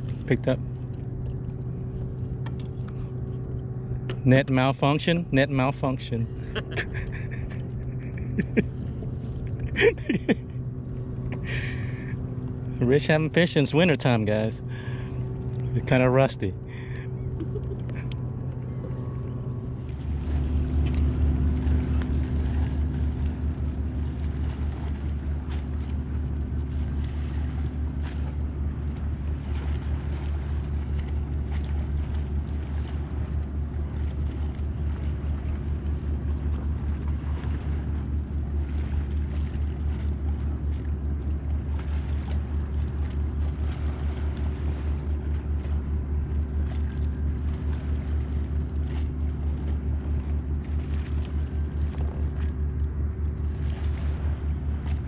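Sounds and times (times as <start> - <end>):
low motor drone: 0.0 - 55.0.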